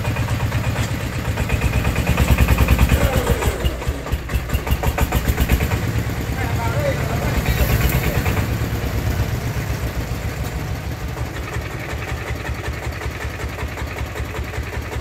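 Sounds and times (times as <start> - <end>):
diesel engine thumping: 0.0 - 15.0.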